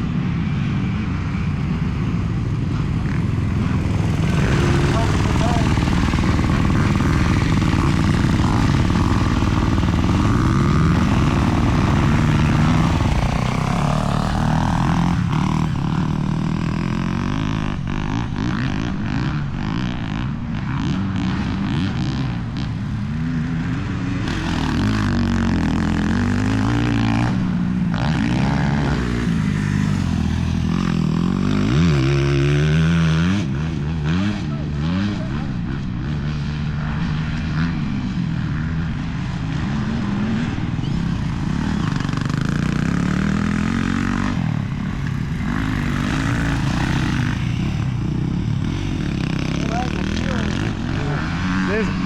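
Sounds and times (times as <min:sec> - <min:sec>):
dirt bike engine revving: 0:00.3 - 0:52.0.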